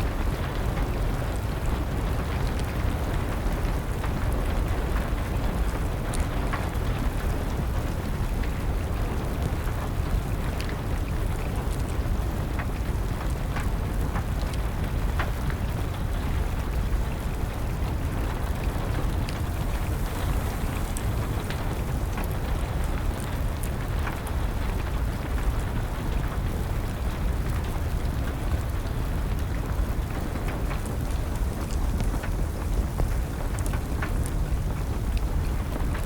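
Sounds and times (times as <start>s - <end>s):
steady rain: 0.0s - 36.0s
wood fire popping and crackling: 0.0s - 36.0s.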